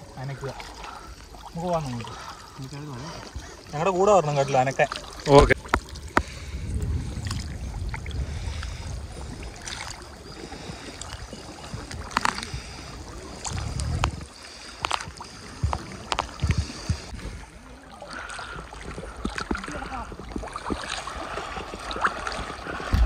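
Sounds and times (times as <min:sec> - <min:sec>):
low rumbling water surges: 0:00.0 - 0:23.0
people wading through water: 0:00.0 - 0:23.0
sharp splashes: 0:00.0 - 0:23.0.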